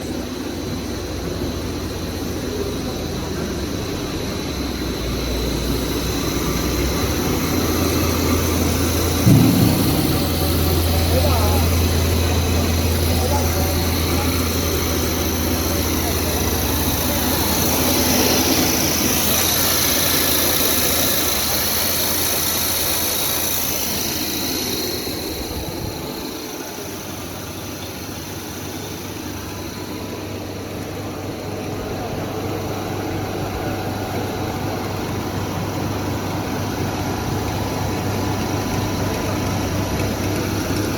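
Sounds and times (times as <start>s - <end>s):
machinery motor hum and hiss: 0.1s - 40.9s.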